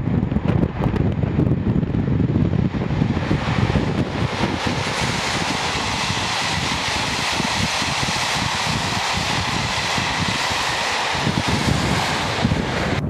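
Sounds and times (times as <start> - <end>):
train rushing past: 0.9 - 13.0.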